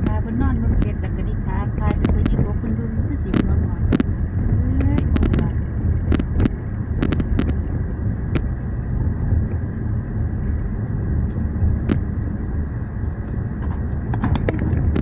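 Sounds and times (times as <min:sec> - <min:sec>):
car tyres and engine rumble: 0:00.0 - 0:15.0.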